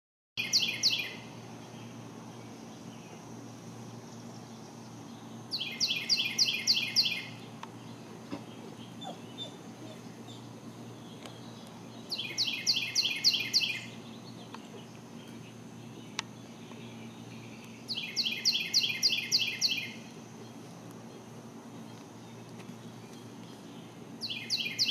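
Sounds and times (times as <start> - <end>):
low steady hum: 0.4 - 24.9
songbird singing: 0.4 - 24.9.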